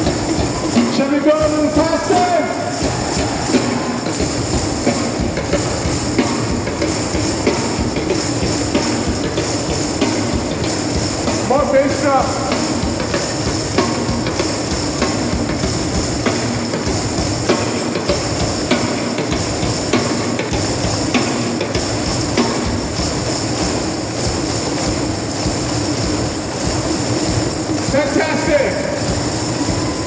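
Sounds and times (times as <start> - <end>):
crowd playing hand drums: 0.0 - 30.0
tambourine jingles: 0.0 - 30.0.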